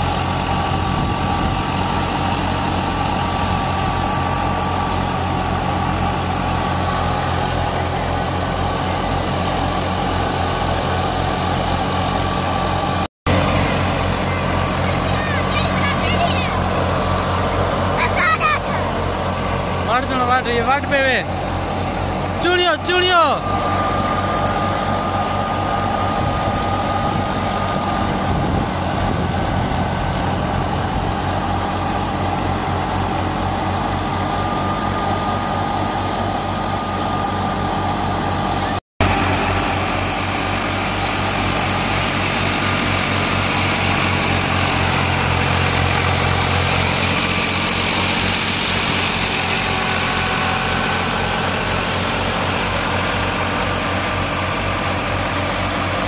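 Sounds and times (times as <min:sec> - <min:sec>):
tractor diesel engine running: 0:00.0 - 0:56.0
wheat thresher din: 0:00.0 - 0:56.0.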